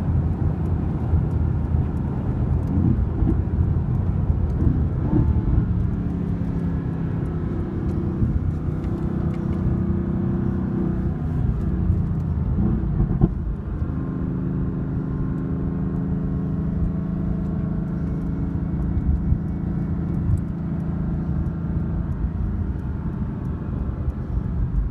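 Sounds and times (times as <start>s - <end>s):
car engine running from inside cabin: 0.0s - 24.9s.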